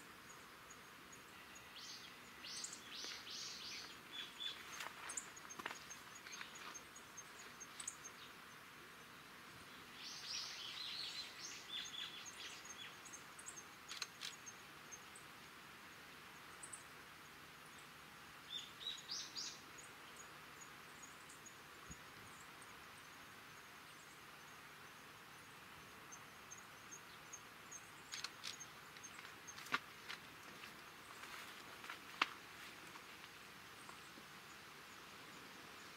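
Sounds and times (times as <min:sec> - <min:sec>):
insect chirping high ticks: 0:00.0 - 0:08.6, 0:10.0 - 0:17.9, 0:18.5 - 0:35.0
birds chirping: 0:00.0 - 0:35.9
constant hiss: 0:00.0 - 0:35.9.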